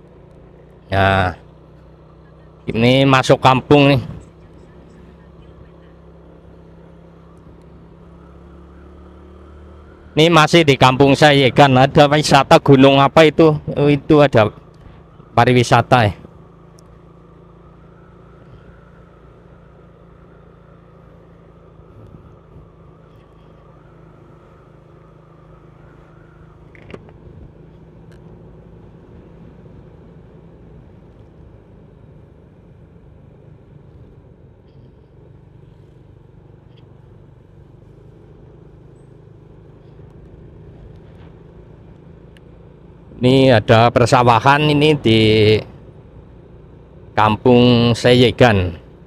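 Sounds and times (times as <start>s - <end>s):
road noise: 0.0s - 49.0s
vehicle engine drone: 0.0s - 49.0s.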